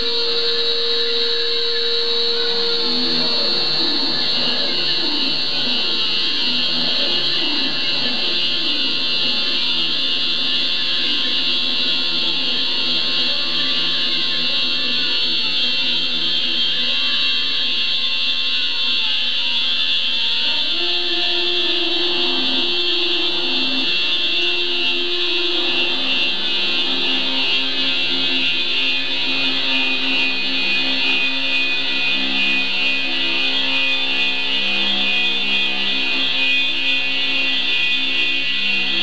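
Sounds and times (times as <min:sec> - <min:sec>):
harsh high-pitched buzz: 0:00.0 - 0:39.0.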